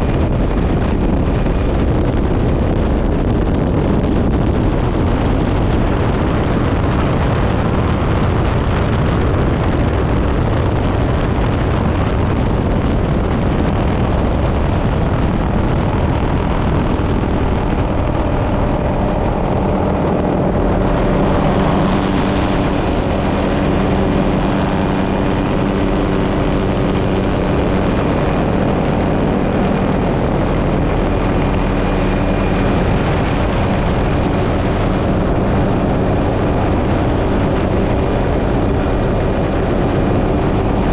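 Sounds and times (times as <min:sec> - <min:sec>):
helicopter rotor and engine: 0:00.0 - 0:40.9
low multi-tone hum: 0:00.0 - 0:40.9.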